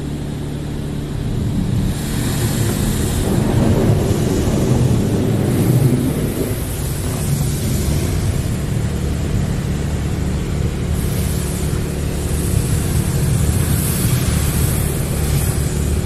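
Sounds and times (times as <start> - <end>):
water spray beating on car: 0.0 - 16.0.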